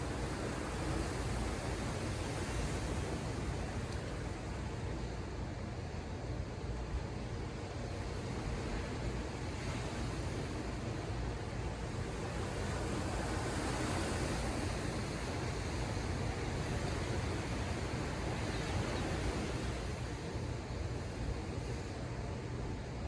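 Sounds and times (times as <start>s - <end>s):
ocean surf washing ashore: 0.0s - 5.5s, 7.9s - 22.7s.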